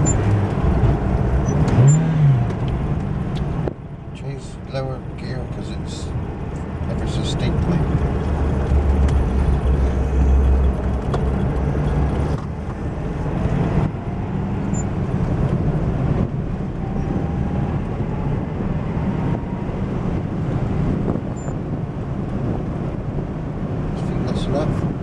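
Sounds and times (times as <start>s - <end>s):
car engine and road noise: 0.0s - 25.0s
deep rumble: 0.0s - 25.0s.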